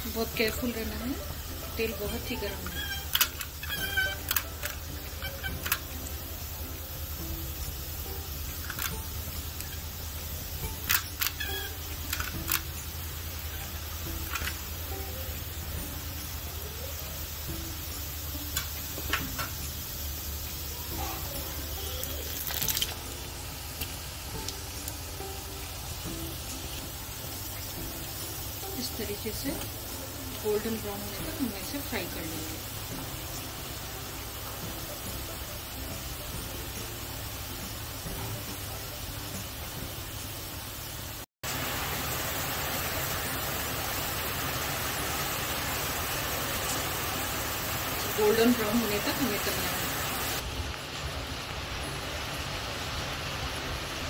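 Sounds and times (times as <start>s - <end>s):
oil bubbling and sizzling: 0.0s - 54.0s.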